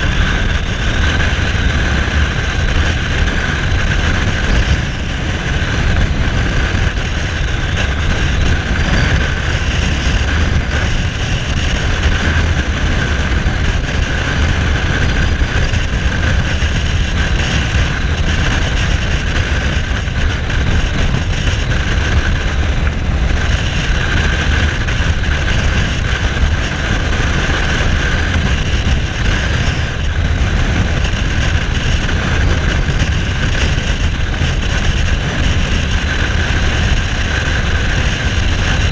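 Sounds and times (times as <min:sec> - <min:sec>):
motorcycle engine low rumble: 0:00.0 - 0:38.9.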